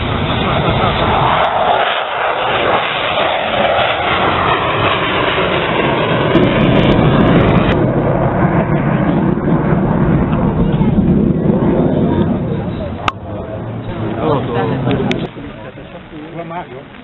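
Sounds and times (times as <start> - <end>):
turboprop aircraft drone: 0.0 - 17.0.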